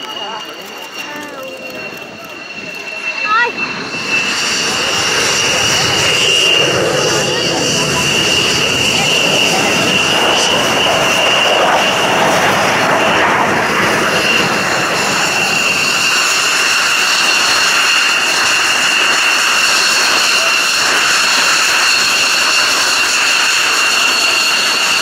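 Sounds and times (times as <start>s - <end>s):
high jet whine: 0.0s - 25.0s
jet engine running: 0.0s - 25.0s.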